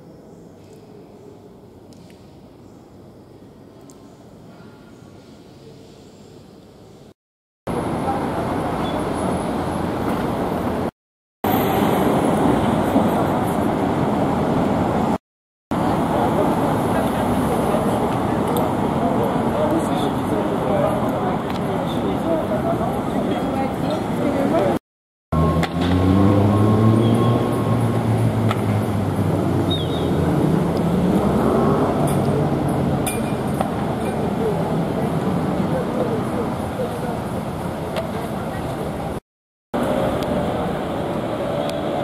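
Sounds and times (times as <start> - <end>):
road traffic noise: 7.7 - 39.2, 39.8 - 42.0.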